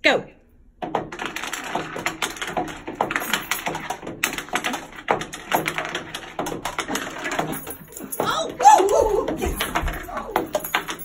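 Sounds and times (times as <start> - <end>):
pencils clattering on wooden table: 0.8 - 11.0.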